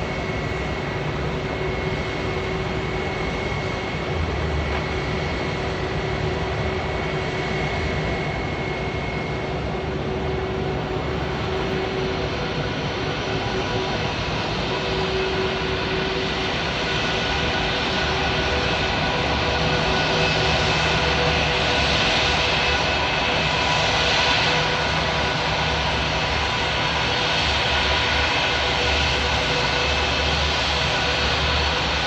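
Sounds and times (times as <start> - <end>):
jet engines roaring and whining: 0.0 - 32.0.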